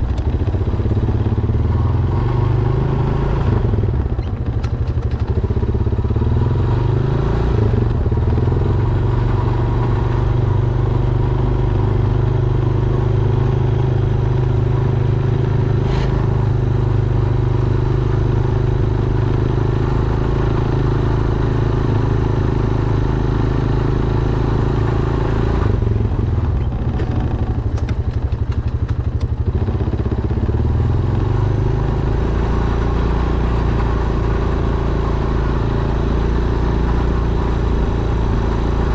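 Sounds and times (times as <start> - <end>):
atv engine running under load: 0.0 - 38.9.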